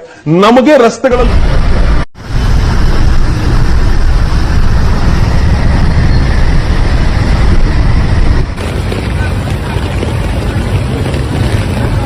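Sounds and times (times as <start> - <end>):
loud low rushing noise: 1.1 - 12.0.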